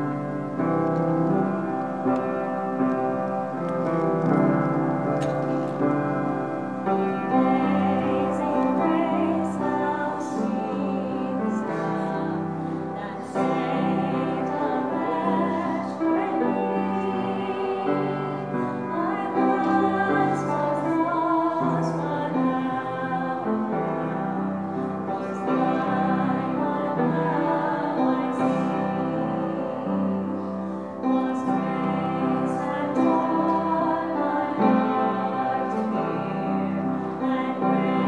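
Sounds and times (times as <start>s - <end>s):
upright piano chords: 0.0s - 38.0s
person singing with vibrato: 6.5s - 38.0s.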